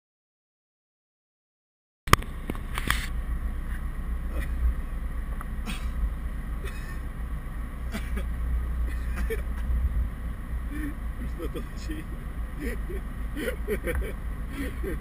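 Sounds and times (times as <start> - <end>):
car cabin rumble: 2.1 - 15.0.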